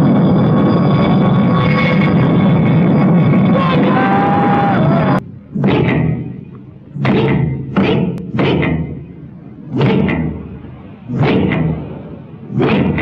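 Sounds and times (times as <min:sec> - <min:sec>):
heavy ringing thumps: 0:00.0 - 0:11.9.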